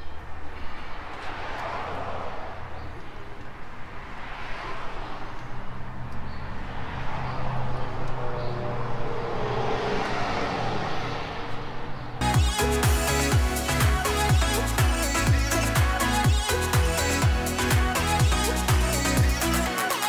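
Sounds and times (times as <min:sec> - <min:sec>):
rushing noise: 0:00.2 - 0:20.0.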